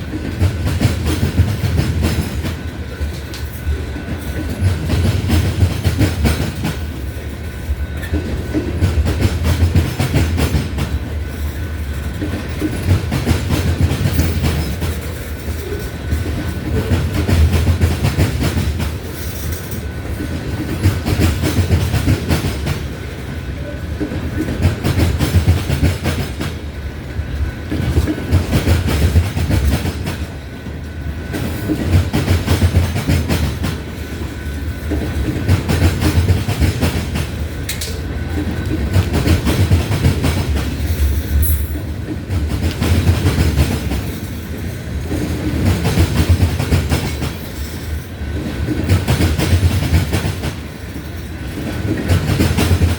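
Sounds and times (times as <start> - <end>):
freight train rumbling past: 0.0 - 52.9
wheels clacking over rail joints: 0.0 - 52.9.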